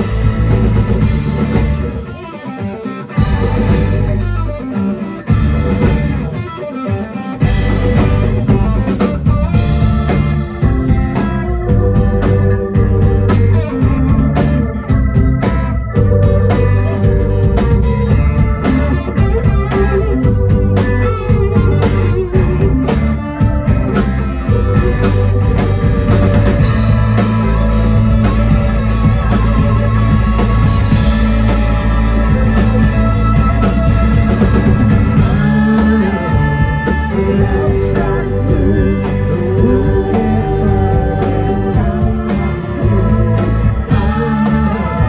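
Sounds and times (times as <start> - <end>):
drum kit: 0.0 - 45.0
electric guitars: 0.0 - 45.0.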